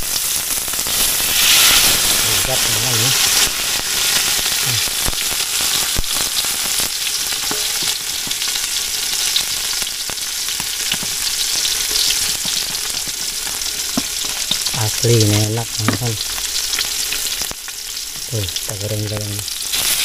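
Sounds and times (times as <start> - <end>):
fish sizzling in hot oil: 0.0 - 20.0
oil popping and crackling: 0.0 - 20.0.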